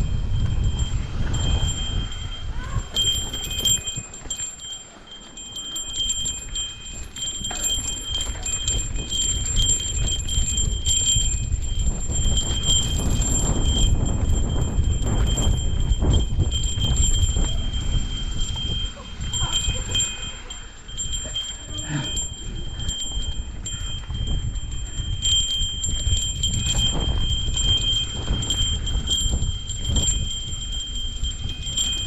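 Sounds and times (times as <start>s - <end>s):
small metal bell ringing: 0.0s - 32.0s
wind rumble on microphone: 0.0s - 32.0s.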